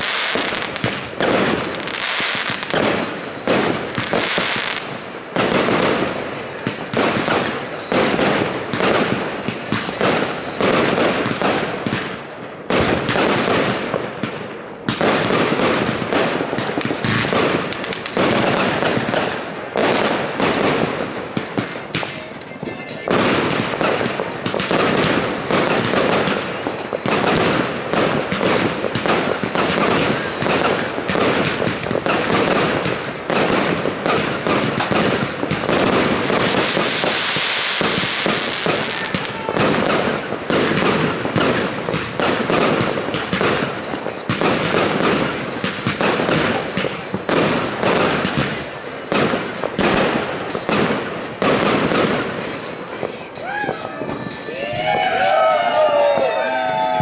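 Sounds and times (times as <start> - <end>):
firework hissing crackle: 0.0 - 54.6
fireworks bangs and bursts: 0.0 - 57.0.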